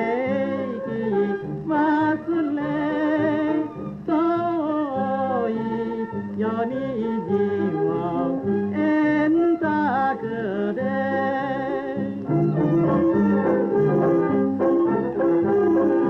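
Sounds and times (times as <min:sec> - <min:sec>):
orchestral popular song record: 0:00.0 - 0:16.0.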